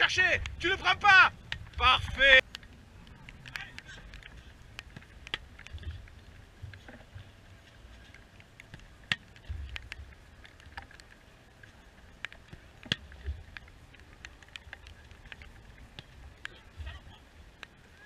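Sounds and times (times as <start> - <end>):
light ticks: 0.0 - 0.8, 1.4 - 18.0
wind rumble on microphone: 0.0 - 18.0.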